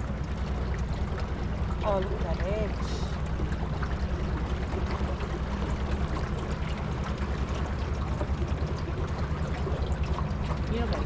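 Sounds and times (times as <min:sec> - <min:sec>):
boat motor humming: 0:00.0 - 0:11.0
water splashing along hull: 0:00.0 - 0:11.0.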